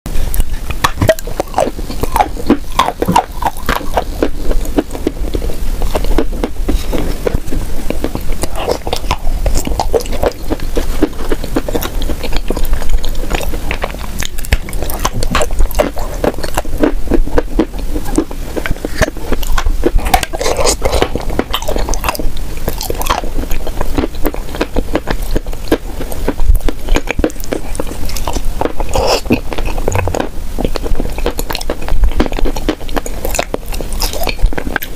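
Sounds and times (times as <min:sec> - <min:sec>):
biting and chewing food: 0:00.1 - 0:34.9.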